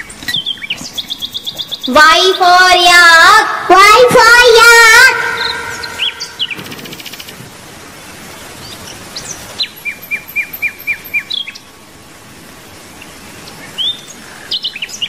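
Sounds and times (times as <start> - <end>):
songbirds chirping: 0.0 - 3.3, 4.3 - 15.0
outdoor background hiss: 0.0 - 15.0.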